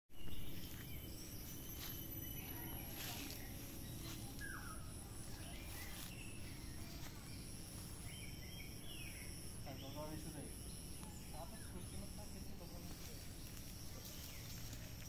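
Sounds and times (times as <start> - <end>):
bird chirps: 0.1 - 15.0
high insect drone: 0.2 - 15.0.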